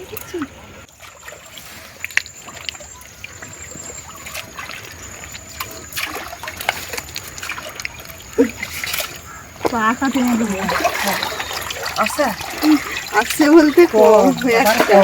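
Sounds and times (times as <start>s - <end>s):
river water trickling: 0.0s - 15.0s
small splashes and drips: 0.0s - 15.0s.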